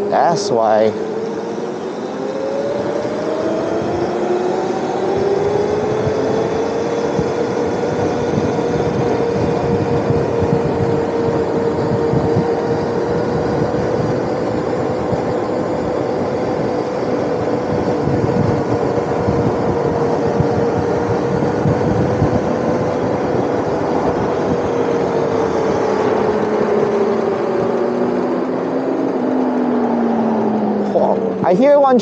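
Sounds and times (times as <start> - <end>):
electric motorbike motor whine: 0.0 - 32.0
wind and road rush: 0.0 - 32.0.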